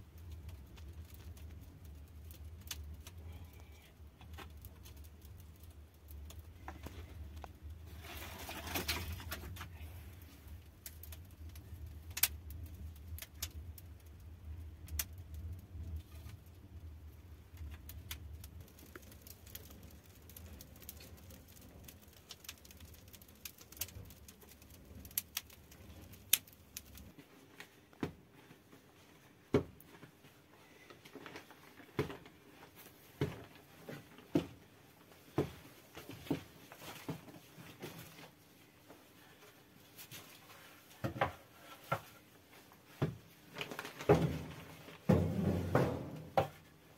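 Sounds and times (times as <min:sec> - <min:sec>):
firewood crackling and popping: 0:00.0 - 0:28.2, 0:30.8 - 0:46.8.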